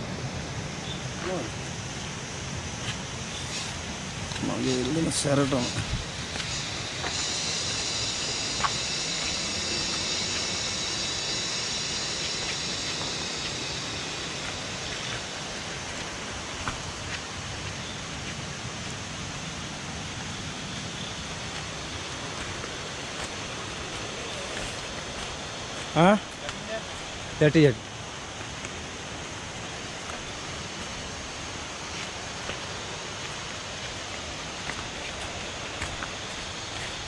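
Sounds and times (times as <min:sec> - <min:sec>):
even hiss: 0:00.0 - 0:37.0
insect chorus: 0:00.0 - 0:37.0.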